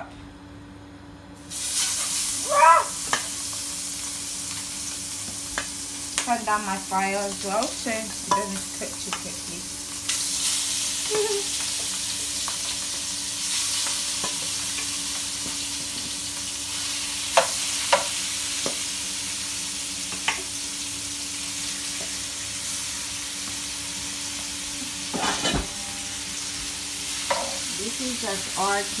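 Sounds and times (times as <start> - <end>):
prawns sizzling in hot oil: 1.4 - 29.0.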